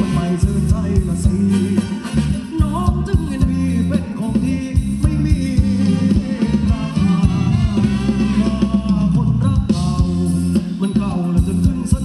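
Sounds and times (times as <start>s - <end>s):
heavy bass line: 0.0s - 12.0s
person singing: 0.0s - 12.0s
steady drum beat: 0.0s - 12.0s.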